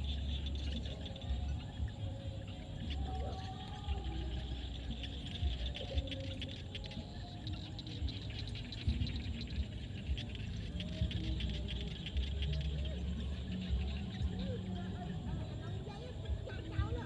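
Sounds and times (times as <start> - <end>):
frogs clicking calls: 0.0 - 17.0
frogs croaking: 0.0 - 17.0
low rumble: 0.0 - 17.0.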